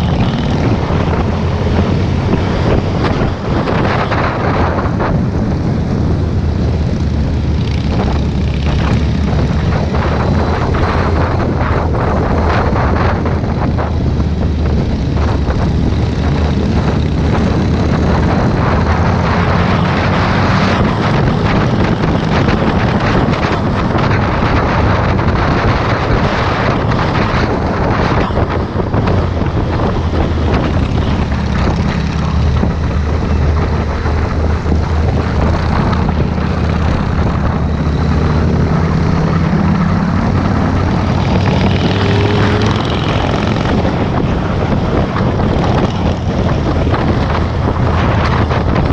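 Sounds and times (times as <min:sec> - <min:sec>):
motorcycle engine running: 0:00.0 - 0:48.9
wind noise on microphone: 0:00.0 - 0:48.9.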